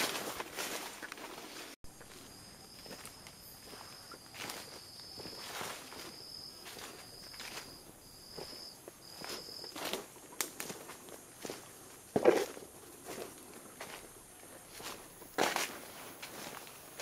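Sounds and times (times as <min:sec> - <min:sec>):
footsteps on dry leaves: 0:00.0 - 0:17.0
insect high steady tone: 0:01.9 - 0:17.0.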